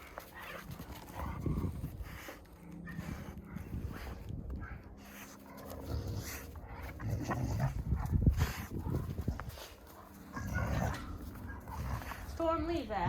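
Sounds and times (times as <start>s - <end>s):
dogs making play noises: 0.0s - 12.4s.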